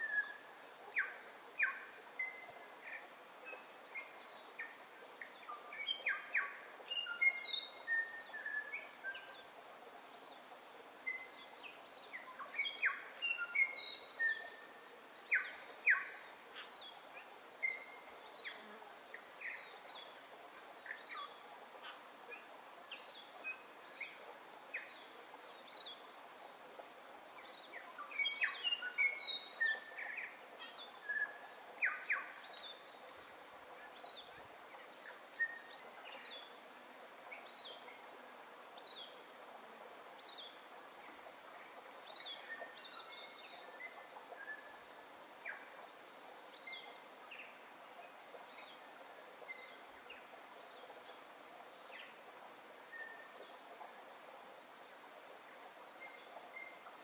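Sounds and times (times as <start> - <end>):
faint background hiss: 0.0 - 57.0.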